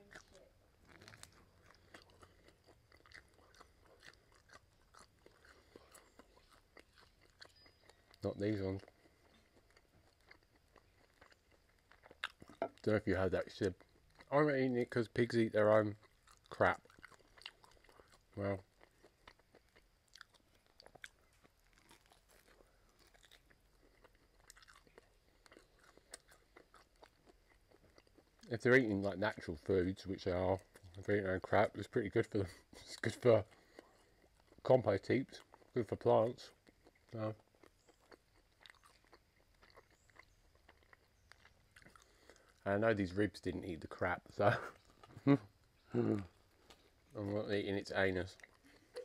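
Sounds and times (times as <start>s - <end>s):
chewing and biting: 0.0s - 49.0s.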